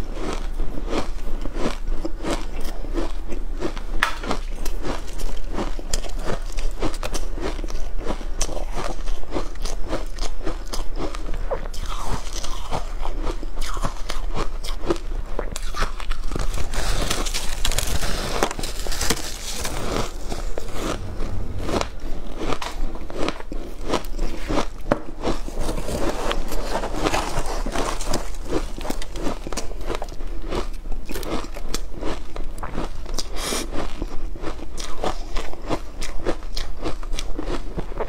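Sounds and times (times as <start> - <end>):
crunching and chewing ice: 0.0 - 38.0.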